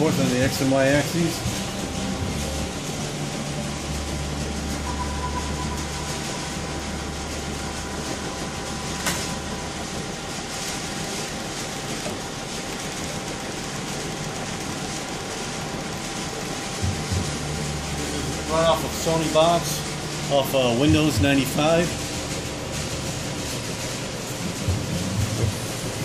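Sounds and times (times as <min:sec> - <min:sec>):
milling machine hum: 0:00.0 - 0:26.0
thin machine whine: 0:00.0 - 0:26.0.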